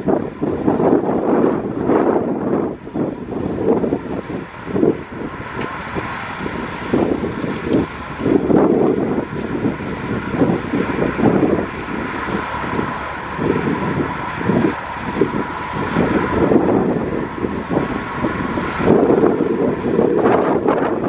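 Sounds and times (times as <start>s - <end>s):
heavy diesel engine under load: 0.0s - 21.0s.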